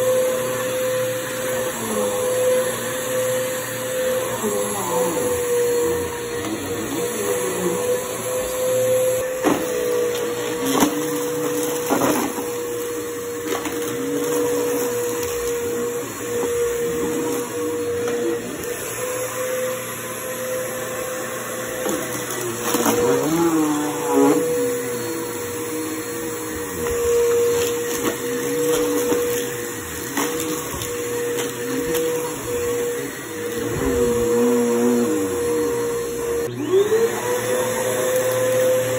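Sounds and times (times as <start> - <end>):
vacuum cleaner motor hum: 0.0 - 38.9.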